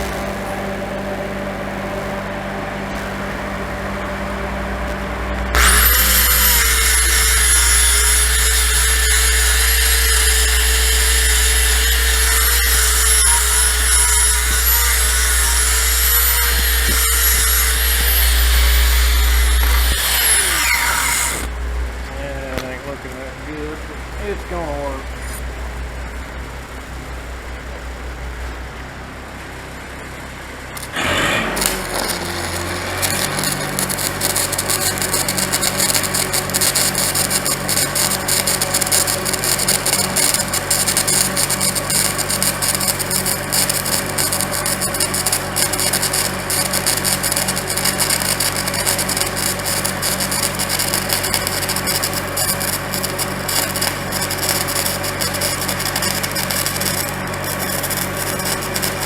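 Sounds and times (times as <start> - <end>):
power grinder grinding steel: 0.0 - 21.6, 30.8 - 59.0
low steady hum: 0.0 - 59.0.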